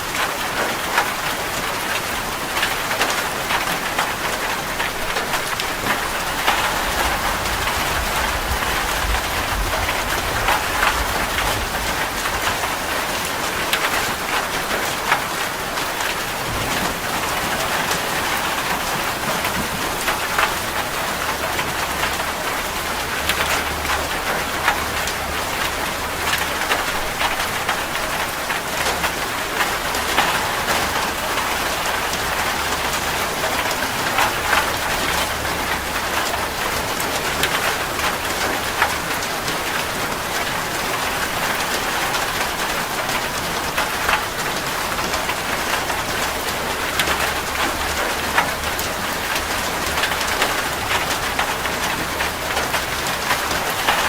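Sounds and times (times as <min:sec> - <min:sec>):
rain pattering on surface: 0:00.0 - 0:54.0.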